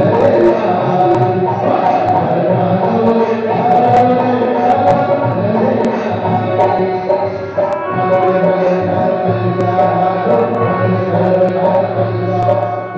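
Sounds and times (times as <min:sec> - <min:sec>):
sustained held melody: 0:00.0 - 0:12.9.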